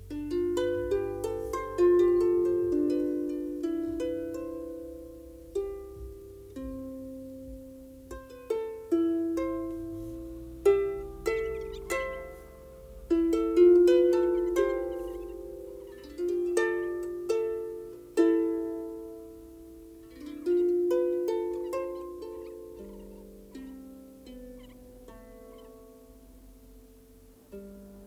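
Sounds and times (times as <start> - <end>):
harp plucked notes and chords: 0.0 - 28.0.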